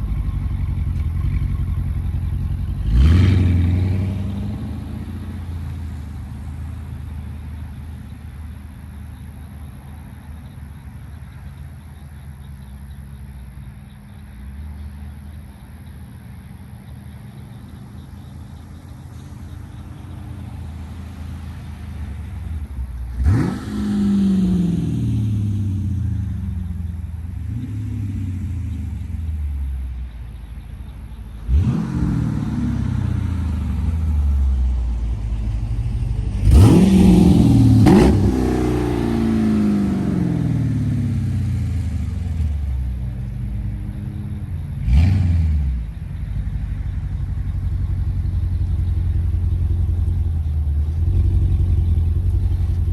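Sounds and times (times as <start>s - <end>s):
engine idling and revving: 0.0s - 52.9s.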